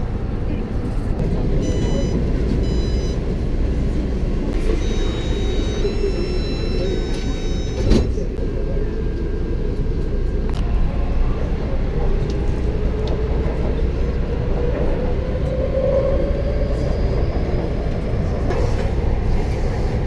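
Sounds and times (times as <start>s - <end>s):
rising train whine: 0.0s - 20.0s
train rumble: 0.0s - 20.0s.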